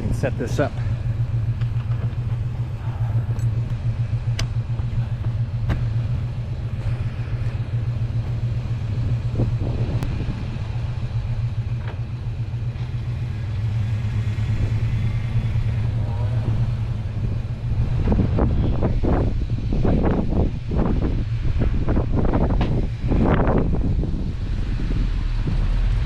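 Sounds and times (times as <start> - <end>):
pickup engine running: 0.0 - 26.0.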